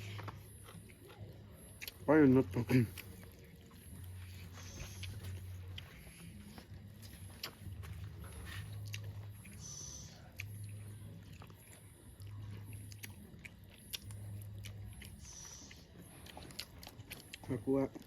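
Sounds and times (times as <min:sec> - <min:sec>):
low hum: 0:00.0 - 0:18.0
people chewing food: 0:00.0 - 0:18.0.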